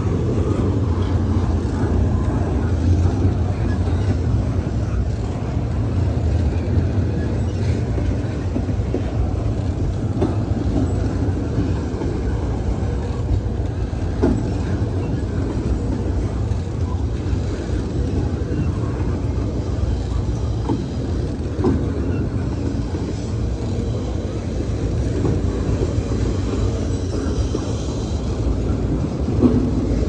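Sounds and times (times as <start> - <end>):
freight train wheels rumbling on rails: 0.0 - 30.0.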